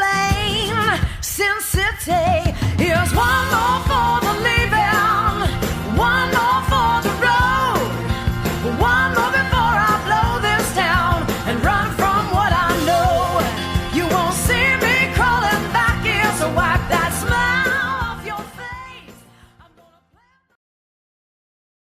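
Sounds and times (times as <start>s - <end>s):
pop-rock song with wordless vocal: 0.0s - 20.2s.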